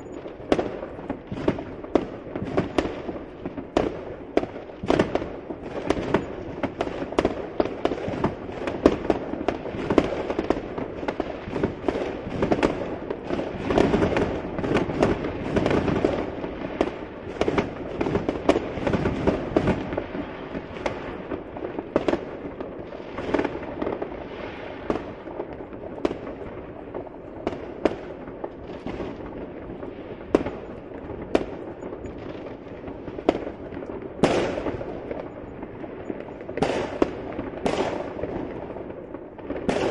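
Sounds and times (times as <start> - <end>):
fireworks bangs and crackles: 0.0 - 39.9
rumble of fireworks bursts: 0.0 - 39.9.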